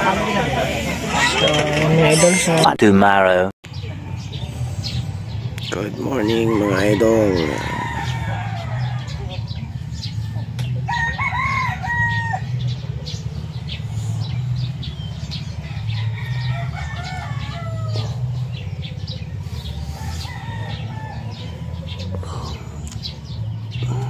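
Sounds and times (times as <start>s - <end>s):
roosters crowing: 0.0s - 3.2s, 4.9s - 24.0s
low drone: 0.0s - 24.0s.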